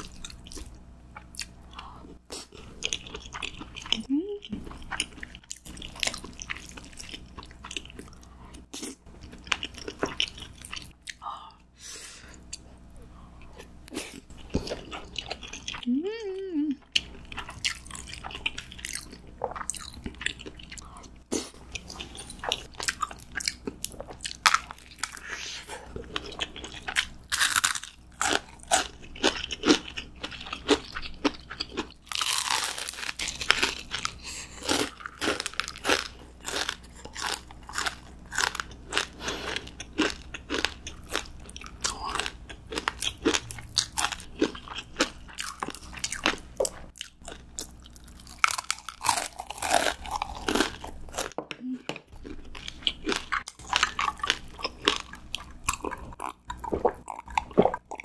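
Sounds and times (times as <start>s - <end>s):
crunchy food being eaten: 0.0s - 11.2s, 16.8s - 58.0s.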